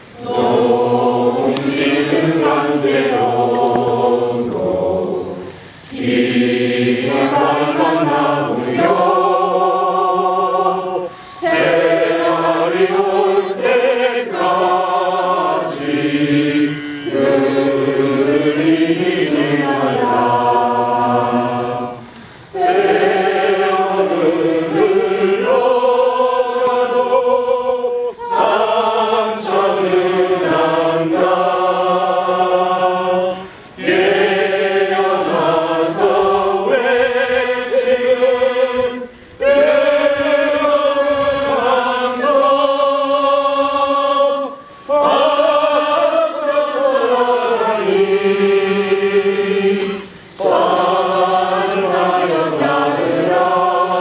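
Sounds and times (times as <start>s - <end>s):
choir singing held chords: 0.0s - 54.0s.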